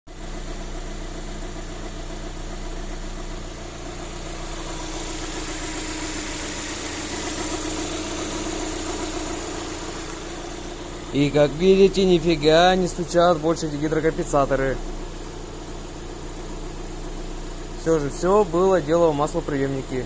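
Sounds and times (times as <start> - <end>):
car engine idling: 0.1 - 20.0.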